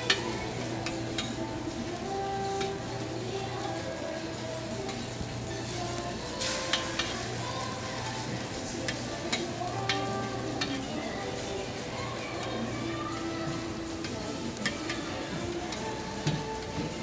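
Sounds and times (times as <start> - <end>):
patty sizzling on griddle: 0.0 - 17.0.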